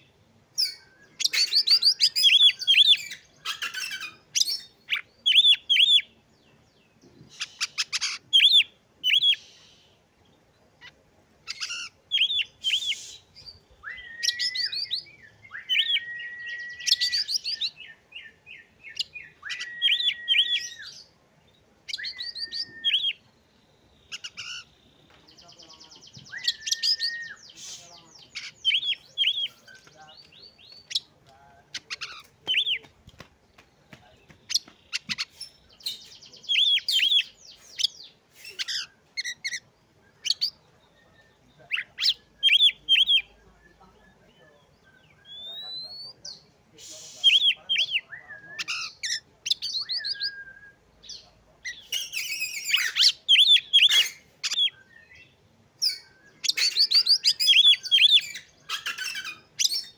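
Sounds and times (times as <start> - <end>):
bird singing chirps and whistles: 0.6 - 6.1, 7.4 - 9.8, 11.5 - 21.1, 21.9 - 24.7, 25.4 - 31.1, 34.5 - 59.9.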